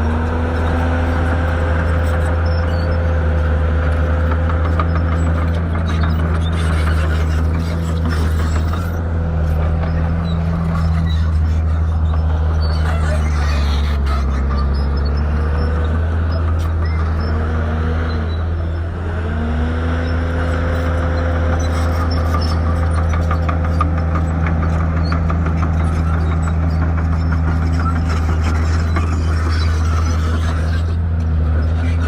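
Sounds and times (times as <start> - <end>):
bulldozer diesel engine whining: 0.0 - 32.0.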